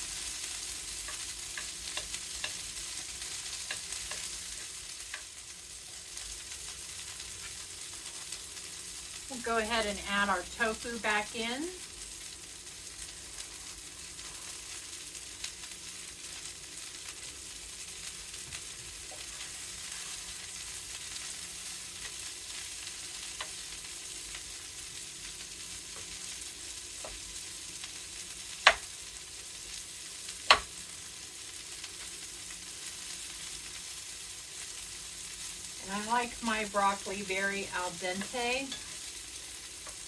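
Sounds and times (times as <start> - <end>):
food sizzling in a skillet: 0.0 - 40.0.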